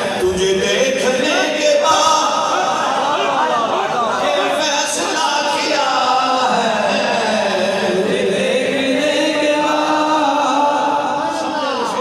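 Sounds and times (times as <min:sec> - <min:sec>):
man chanting into a microphone: 0:00.0 - 0:02.8, 0:04.2 - 0:12.0.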